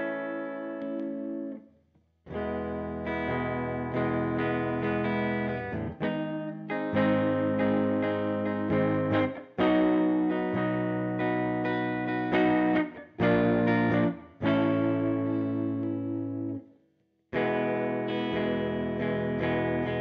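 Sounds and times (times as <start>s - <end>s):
electric guitar chords strummed: 0.0s - 1.6s, 2.3s - 16.6s, 17.4s - 20.0s.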